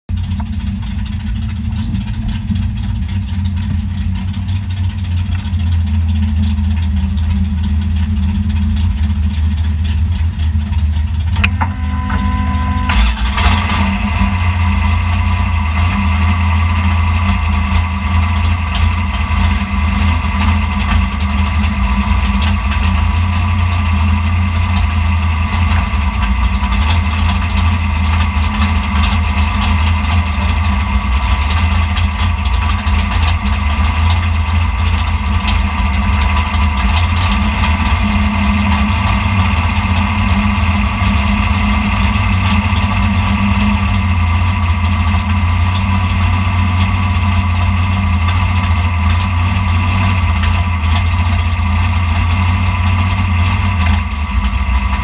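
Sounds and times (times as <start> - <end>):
car engine idling: 0.0 - 55.0
steady high whine: 0.2 - 55.0.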